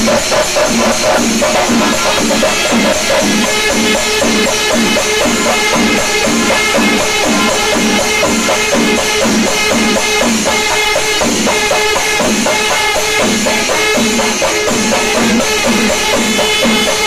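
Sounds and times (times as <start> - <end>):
cymbals clashing: 0.0 - 17.0
drums beaten with sticks: 0.0 - 17.0
reedy wind instrument melody: 0.3 - 17.0.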